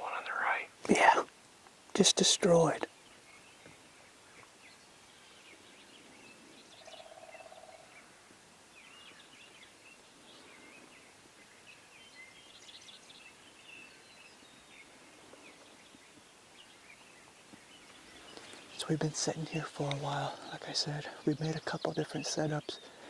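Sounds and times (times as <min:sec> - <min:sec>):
songbird chirps: 0:00.0 - 0:23.0.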